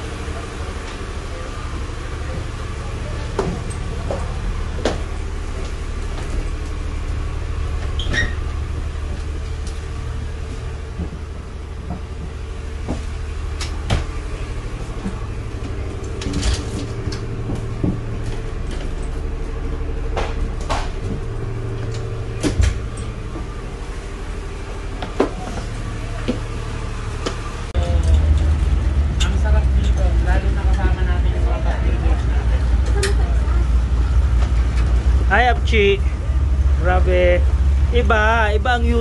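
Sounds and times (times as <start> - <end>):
road and engine drone: 0.0 - 39.0.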